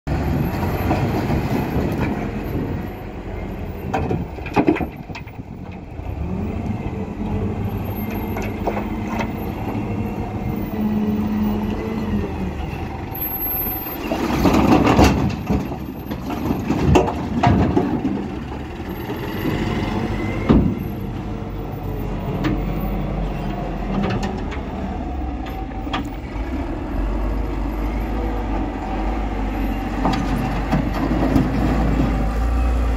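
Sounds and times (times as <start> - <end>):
loader diesel engine working: 0.1 - 32.9.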